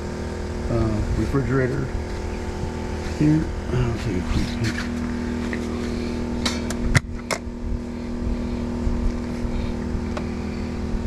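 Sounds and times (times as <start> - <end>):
portable generator running: 0.0 - 11.0.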